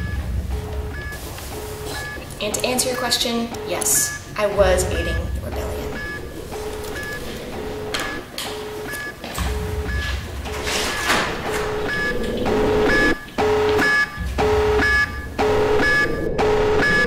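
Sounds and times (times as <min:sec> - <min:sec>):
alternating electronic beeping tones: 0:00.0 - 0:17.0
deep pulsing bass: 0:00.0 - 0:17.0.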